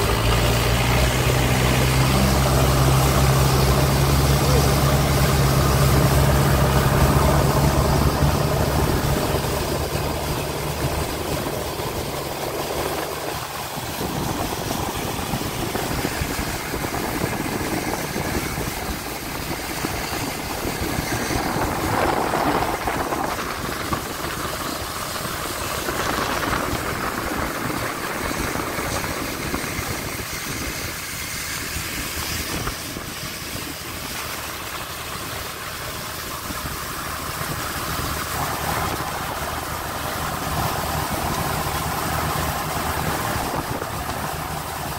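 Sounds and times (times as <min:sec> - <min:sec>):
engine humming: 0:00.0 - 0:44.9
steady rushing noise: 0:00.0 - 0:44.9.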